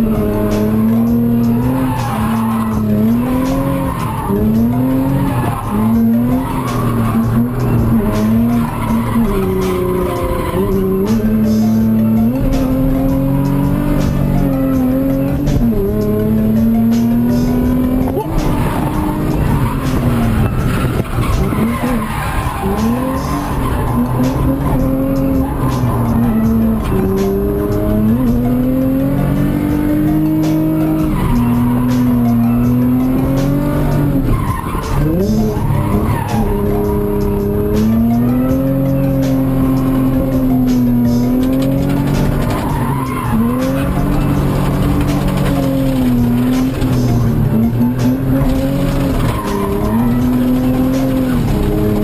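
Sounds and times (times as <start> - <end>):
car engine revving hard: 0.0 - 52.0
tyre squeal: 0.2 - 13.3, 18.1 - 28.4, 30.5 - 52.0.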